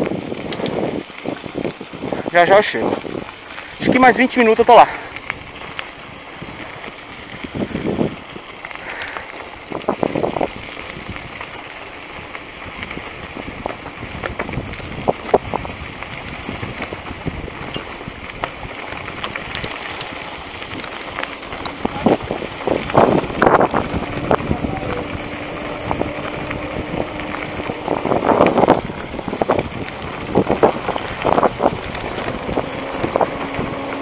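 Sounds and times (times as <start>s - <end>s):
wind on microphone: 0.0s - 4.2s, 5.0s - 34.0s
bicycle rattles and clicks: 0.0s - 34.0s
bicycle tyres on gravel: 0.0s - 34.0s
bicycle bumps: 4.8s - 34.0s.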